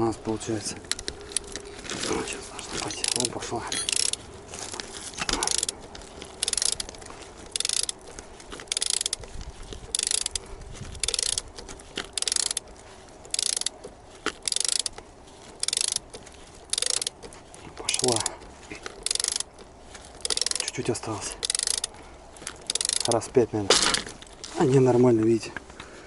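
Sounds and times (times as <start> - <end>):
ratchet wrench clicking: 0.9 - 1.7, 2.8 - 23.4.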